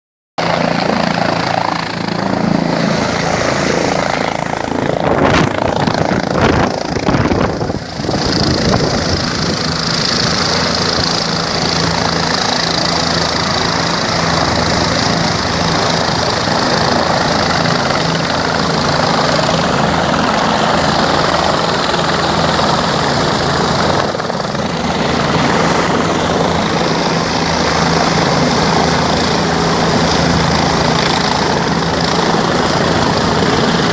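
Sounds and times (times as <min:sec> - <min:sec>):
helicopter drone: 0:00.4 - 0:33.9.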